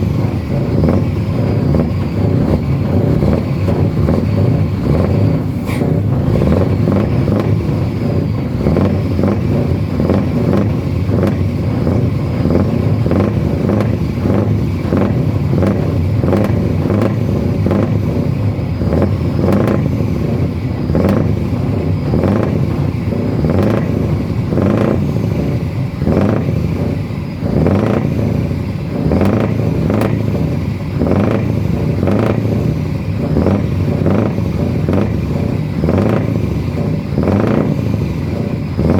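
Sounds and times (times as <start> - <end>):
truck engine running loudly: 0.0 - 38.9.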